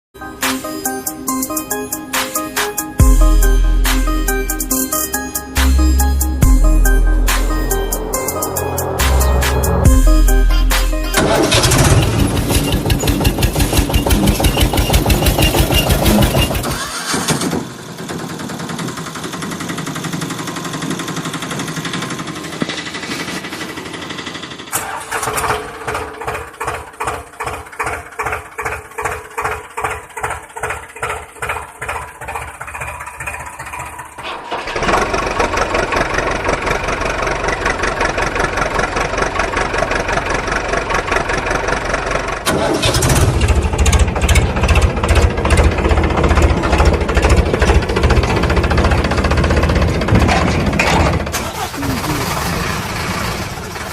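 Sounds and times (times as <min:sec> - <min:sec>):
construction machine engines: 0:00.2 - 0:53.9.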